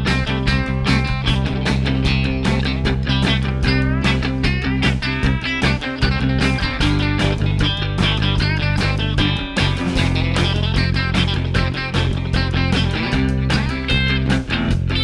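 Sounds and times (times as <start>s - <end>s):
bass guitar: 0.0s - 15.0s
guitar lead with bending notes: 0.0s - 15.0s
steady drum beat: 0.0s - 15.0s.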